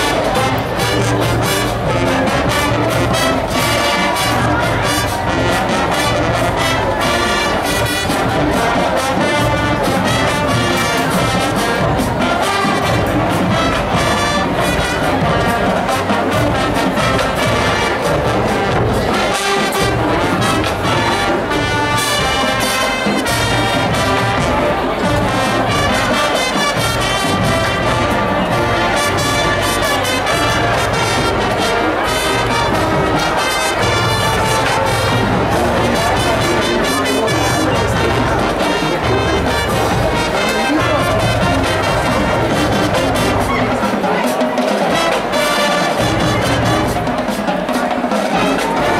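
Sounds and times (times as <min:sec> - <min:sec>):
marching band brass: 0:00.0 - 0:48.9.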